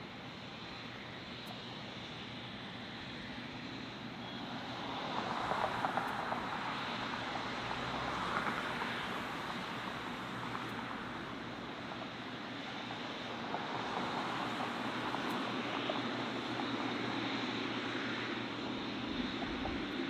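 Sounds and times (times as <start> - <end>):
jet airliner engine roar: 0.0 - 20.0.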